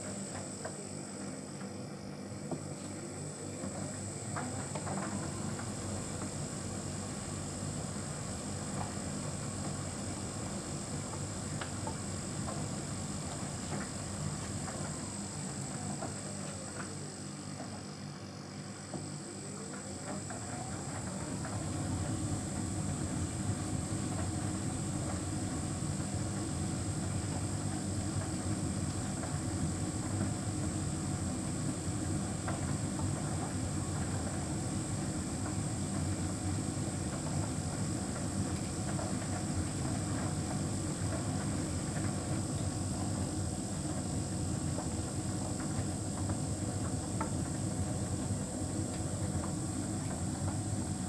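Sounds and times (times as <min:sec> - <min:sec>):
tumble dryer drum rumbling: 0:00.0 - 0:18.1, 0:18.8 - 0:51.0
tumble dryer motor whine: 0:00.0 - 0:51.0.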